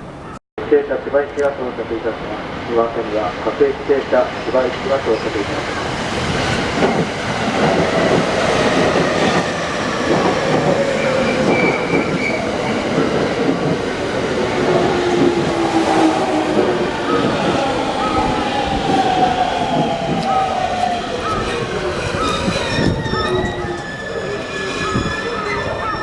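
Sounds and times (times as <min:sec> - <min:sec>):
train wheel clatter and rumble: 0:04.2 - 0:26.0.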